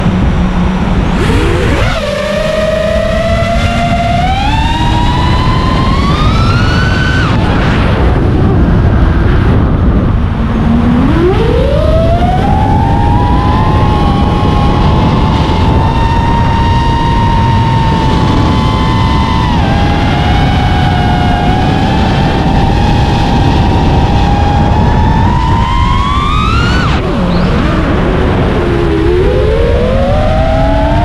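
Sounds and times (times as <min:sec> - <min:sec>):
low rush of noise: 0:00.0 - 0:31.0
quadcopter motors whining: 0:00.0 - 0:31.0.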